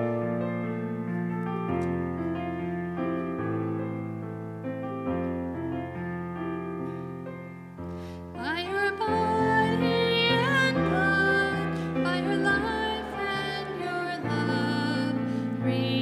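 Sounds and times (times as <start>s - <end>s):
hymn chords on piano: 0.0s - 16.0s.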